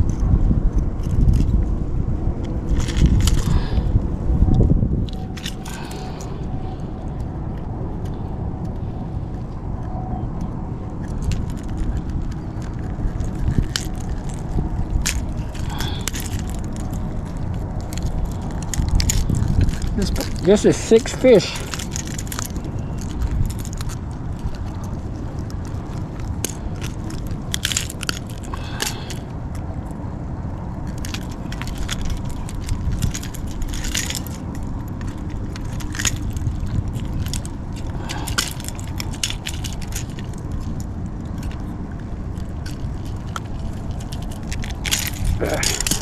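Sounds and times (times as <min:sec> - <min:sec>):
steady low rumble: 0:00.0 - 0:46.0
handling noise on microphone: 0:02.4 - 0:10.1, 0:10.9 - 0:30.0, 0:30.8 - 0:46.0.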